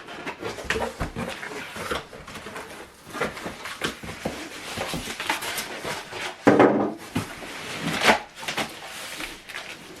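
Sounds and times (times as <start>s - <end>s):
cardboard packaging rustling: 0.0s - 10.0s.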